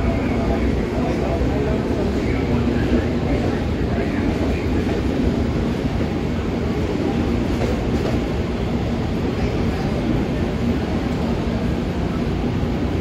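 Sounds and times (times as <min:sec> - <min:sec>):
trains idling low rumble: 0:00.0 - 0:13.0.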